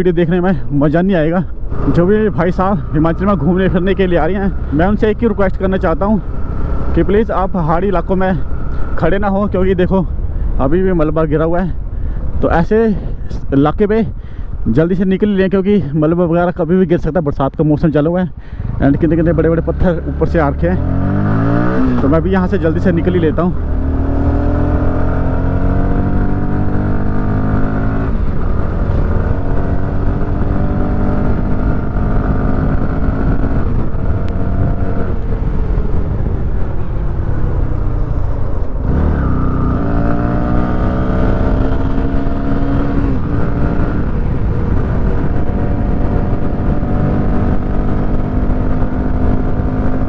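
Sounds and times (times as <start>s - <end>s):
motorcycle engine accelerating: 0.0s - 10.4s, 18.6s - 50.0s.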